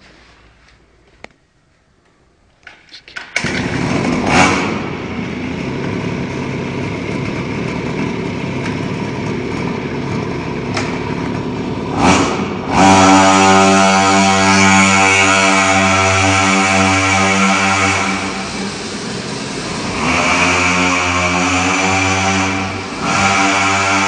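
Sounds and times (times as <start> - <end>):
minibike engine revving: 3.4 - 24.0.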